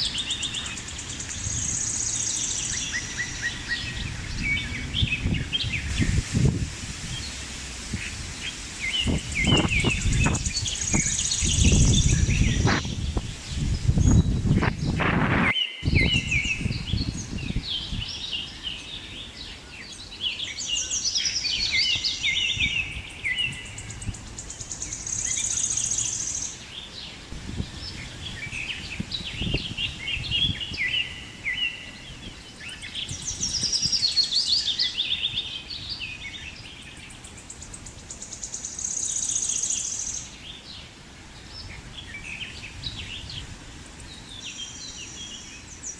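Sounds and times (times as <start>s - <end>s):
wind buffeting microphone: 0.0s - 20.2s, 20.8s - 38.4s, 40.4s - 45.9s
birds singing and chirping: 0.0s - 45.9s.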